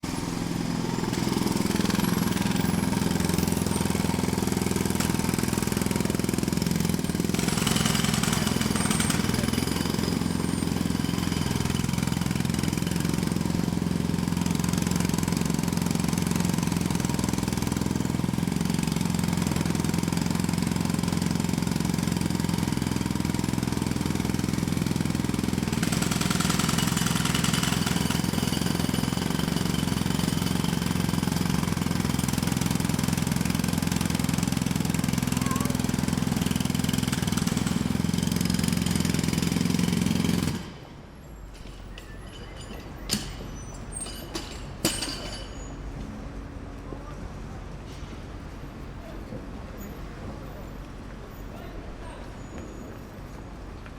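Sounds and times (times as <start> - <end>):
jackhammer hammering: 0.0 - 40.9, 41.6 - 45.9.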